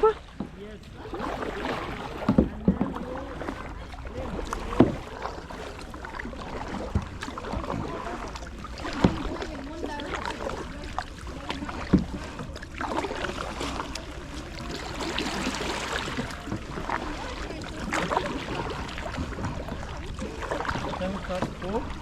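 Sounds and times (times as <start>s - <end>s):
paddle splashing and dripping: 0.0s - 22.0s.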